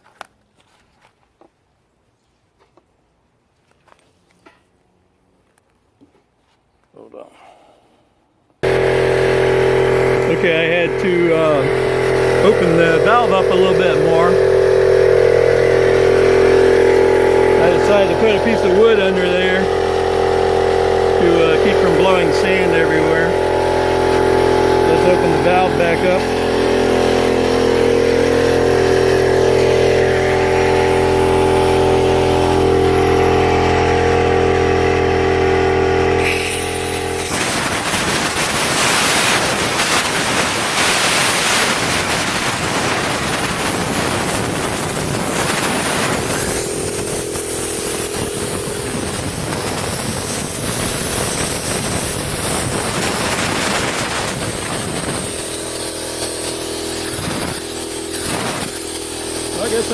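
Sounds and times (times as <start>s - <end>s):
compressed air blasting from valve: 8.6s - 59.9s
steady pitched drone: 8.6s - 59.9s.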